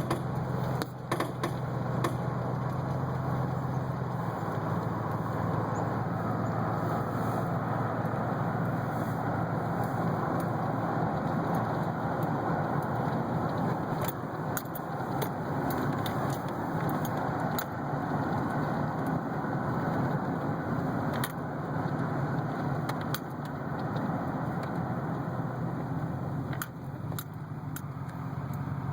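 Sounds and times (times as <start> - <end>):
truck engine drone: 0.0 - 28.9.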